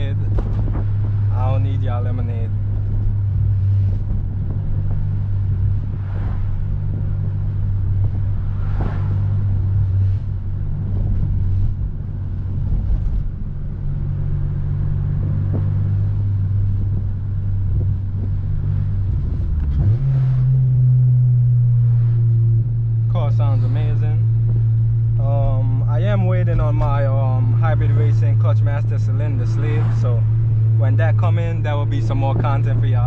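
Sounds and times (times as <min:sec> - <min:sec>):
car engine droning while driving: 0:00.0 - 0:33.0.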